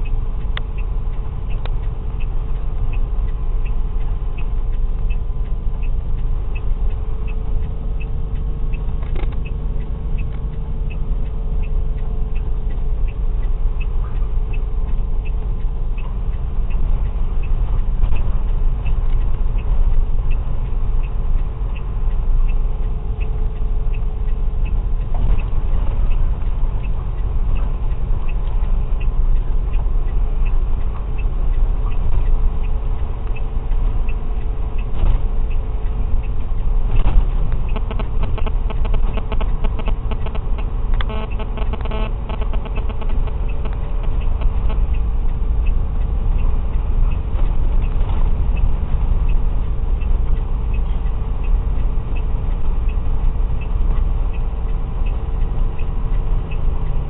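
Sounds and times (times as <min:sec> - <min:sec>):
light ticking: 0:00.0 - 0:57.0
truck engine and tyre rumble: 0:00.0 - 0:57.0.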